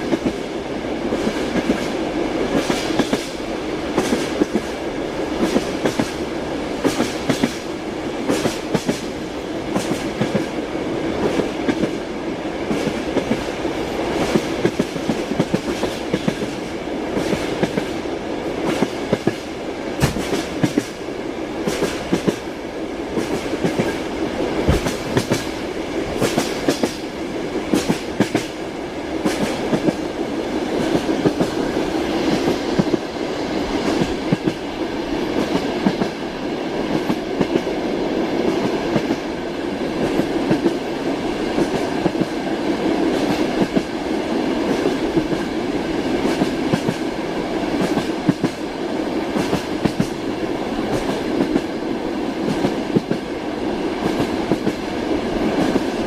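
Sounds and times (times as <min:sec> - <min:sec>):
train rumble: 0:00.0 - 0:56.0
train wheels clicking: 0:00.0 - 0:56.0.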